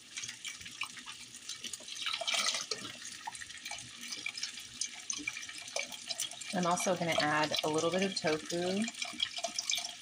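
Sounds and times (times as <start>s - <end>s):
broth pouring into a pot: 0.0s - 10.0s.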